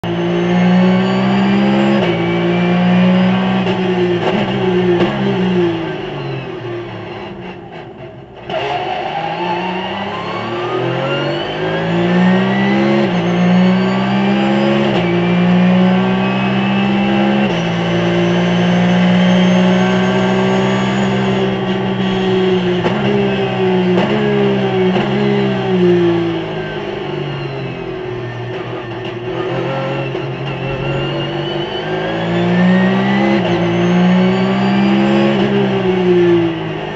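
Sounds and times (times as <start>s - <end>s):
race car engine shifting gears: 0.1s - 36.9s.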